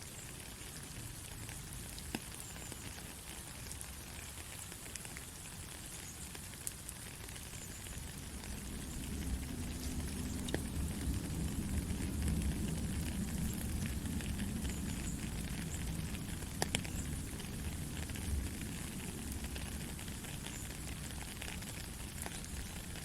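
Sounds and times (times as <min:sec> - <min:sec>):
soft rain falling: 0:00.0 - 0:23.0.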